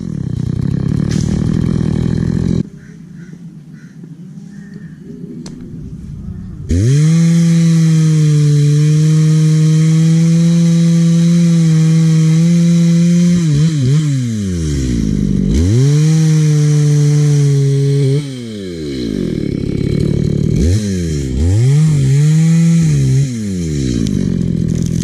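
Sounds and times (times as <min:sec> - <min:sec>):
chainsaw engine revving: 0:00.0 - 0:02.8, 0:06.6 - 0:25.0.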